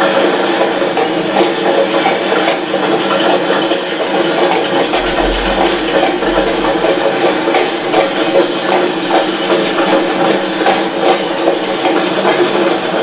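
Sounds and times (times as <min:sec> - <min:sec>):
freight train rolling past: 0:00.0 - 0:13.0
wheels clattering on rails: 0:00.0 - 0:13.0.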